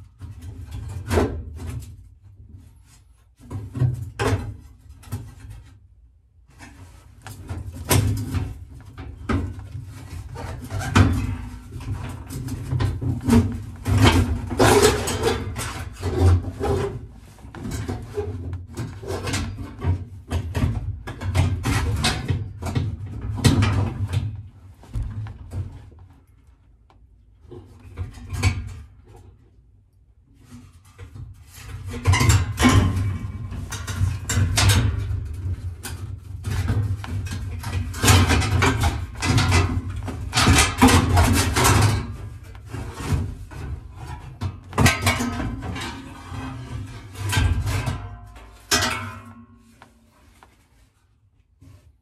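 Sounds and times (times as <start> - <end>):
sheet metal knocking and scraping: 6.6 - 29.4, 30.4 - 50.8.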